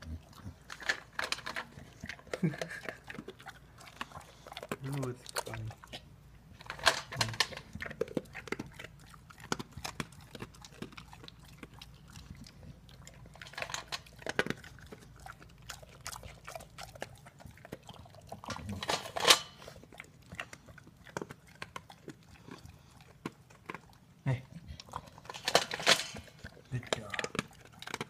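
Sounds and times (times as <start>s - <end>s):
dog chewing from a bowl: 0.0s - 28.0s.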